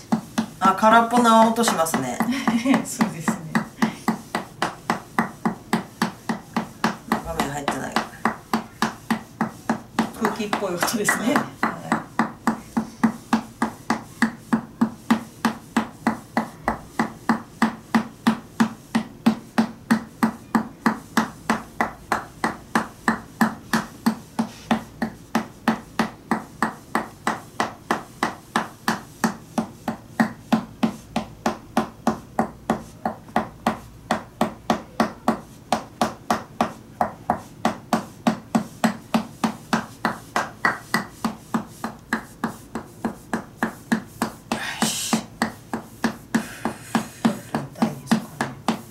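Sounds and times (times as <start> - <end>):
wooden mallet knocking on wood: 0.1 - 48.9.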